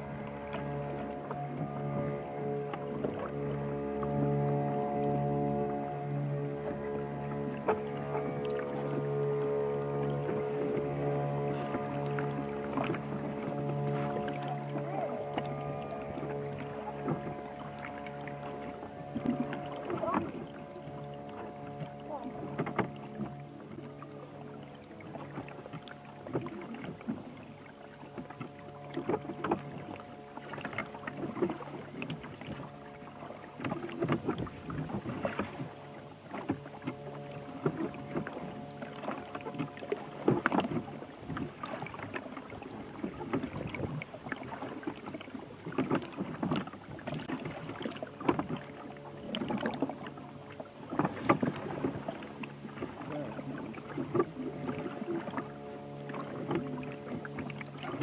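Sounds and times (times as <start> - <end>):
low hum of held tones: 0.0 - 58.0
water splashing against a boat: 0.0 - 58.0.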